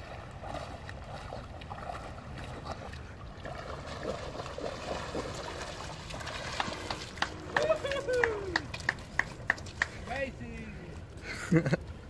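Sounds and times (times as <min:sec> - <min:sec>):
dog splashing through water: 0:00.0 - 0:10.0.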